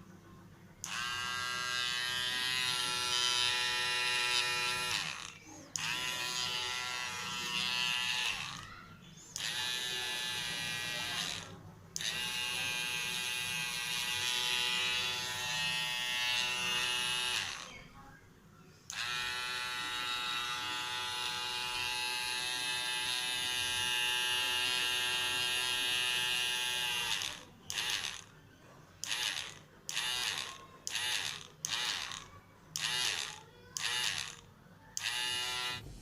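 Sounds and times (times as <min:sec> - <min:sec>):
small electric drill motor whining: 0:00.8 - 0:08.7, 0:09.4 - 0:17.8, 0:18.9 - 0:28.3, 0:29.0 - 0:35.8.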